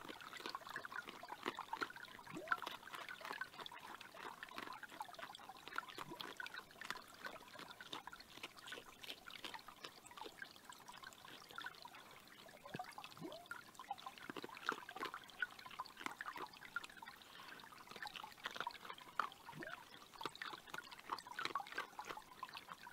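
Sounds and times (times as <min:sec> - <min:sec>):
creek running: 0:00.0 - 0:22.9.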